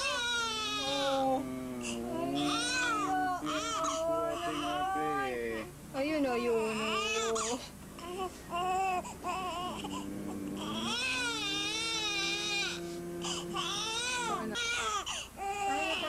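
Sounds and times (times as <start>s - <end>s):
newborn baby crying: 0.0s - 5.7s, 6.4s - 16.0s.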